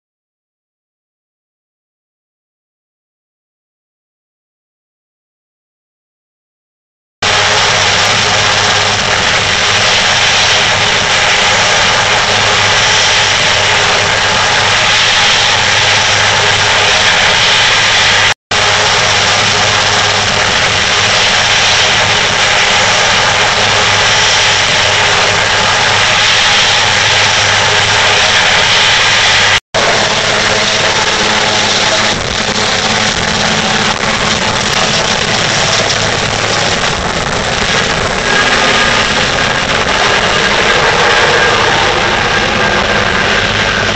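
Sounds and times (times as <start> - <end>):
helicopter rotor noise: 7.2 - 43.9
helicopter turbine whine: 7.2 - 43.9
low hum: 7.2 - 43.9.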